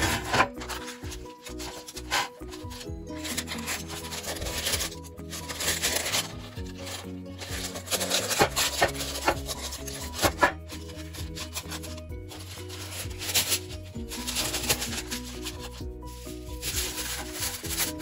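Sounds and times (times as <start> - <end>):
parchment paper rustling and crinkling: 0.0 - 18.0
soft background music: 0.0 - 18.0.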